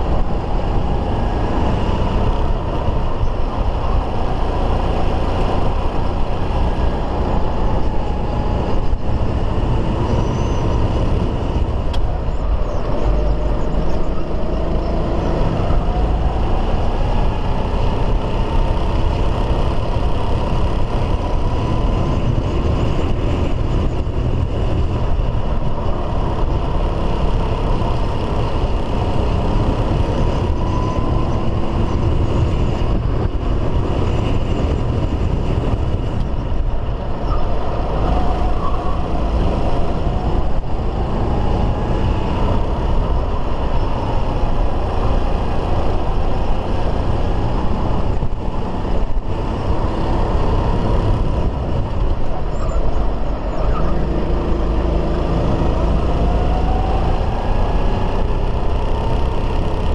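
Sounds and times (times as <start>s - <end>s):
kart engine running: 0.0s - 59.9s
low rumble from camera: 0.0s - 59.9s.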